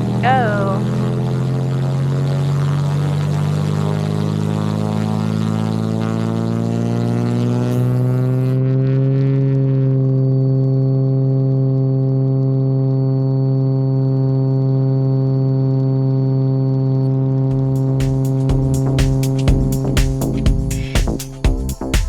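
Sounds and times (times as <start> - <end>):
airplane engine and propeller drone: 0.0 - 19.4.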